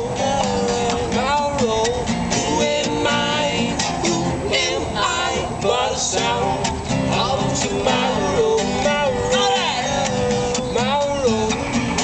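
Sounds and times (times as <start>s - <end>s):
guitar playing: 0.0s - 12.0s
people singing: 0.0s - 12.0s.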